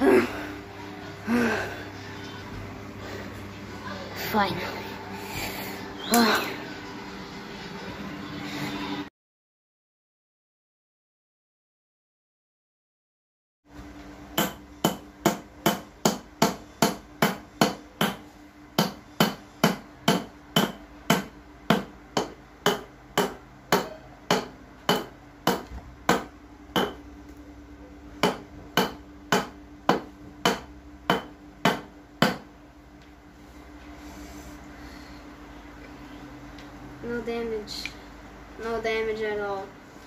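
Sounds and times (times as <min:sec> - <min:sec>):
steady low hum: 0:00.0 - 0:09.1, 0:13.7 - 0:40.0.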